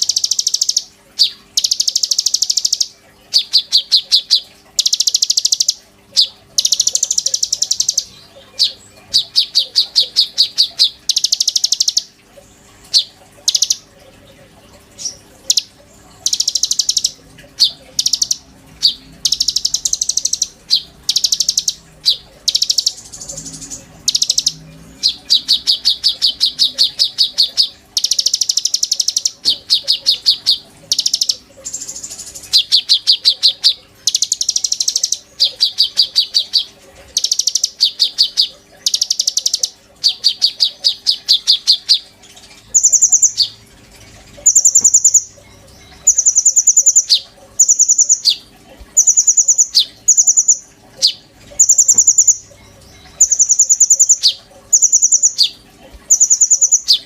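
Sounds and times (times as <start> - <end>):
songbird buzzy trills: 0.0 - 57.0.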